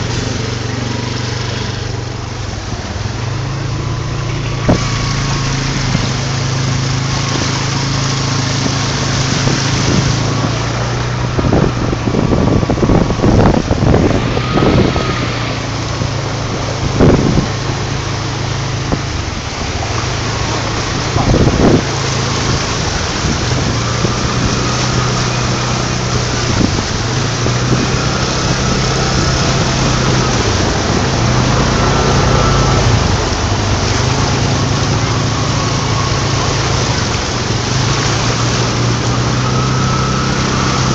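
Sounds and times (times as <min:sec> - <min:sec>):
vehicle engine running: 0:00.0 - 0:40.9
water rushing and splashing: 0:00.0 - 0:40.9
wind on microphone: 0:00.0 - 0:40.9.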